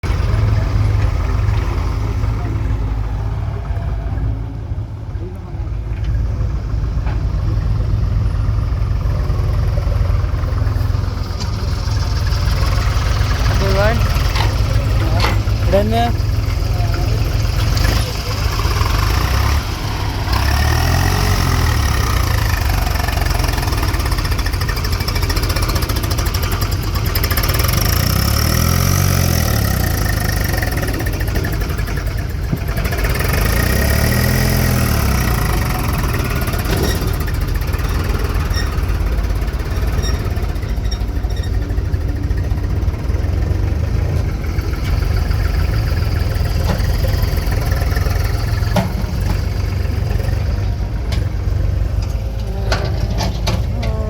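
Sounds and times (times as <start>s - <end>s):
diesel engines revving: 0.0s - 54.0s.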